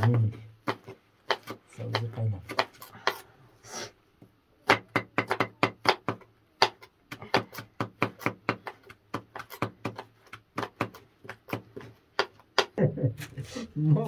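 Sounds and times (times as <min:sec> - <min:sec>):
knife chopping greens on wooden board: 0:00.0 - 0:03.3, 0:04.6 - 0:12.8.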